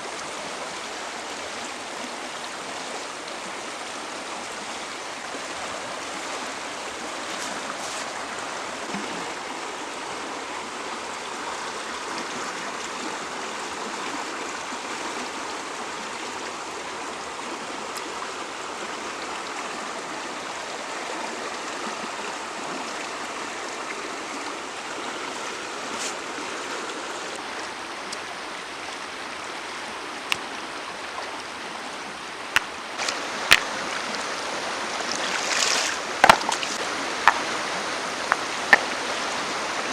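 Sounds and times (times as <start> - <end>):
stream flowing water: 0.0 - 39.9.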